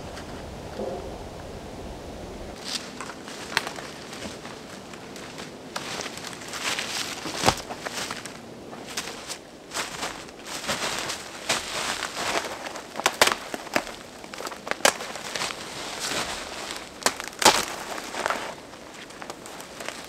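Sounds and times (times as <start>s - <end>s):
branches rustling: 0.0s - 20.0s
dry twigs snapping: 2.6s - 20.0s.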